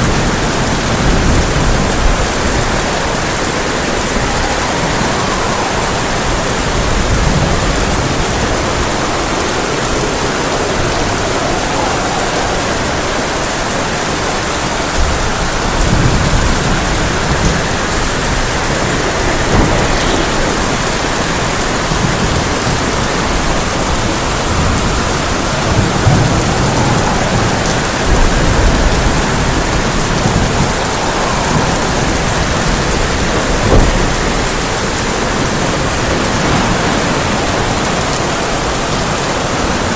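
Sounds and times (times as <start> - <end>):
heavy rain on a tin roof: 0.0 - 39.9
thunder rolling: 0.0 - 39.9
sharp thunder clap: 0.1 - 39.1.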